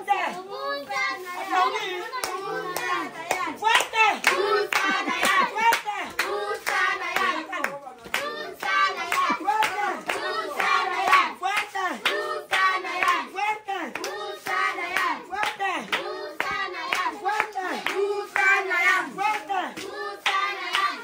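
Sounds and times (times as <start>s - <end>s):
children and women singing: 0.0s - 21.0s
hands clapping: 2.1s - 13.2s, 13.9s - 21.0s.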